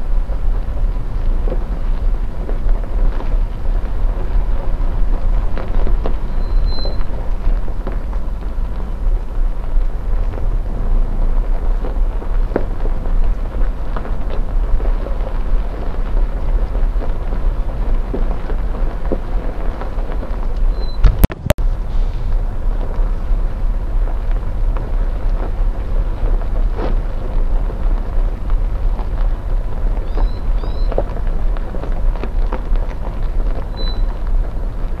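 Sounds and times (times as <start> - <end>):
vehicle engine rumble: 0.0 - 35.0
wind buffeting microphone: 0.0 - 35.0.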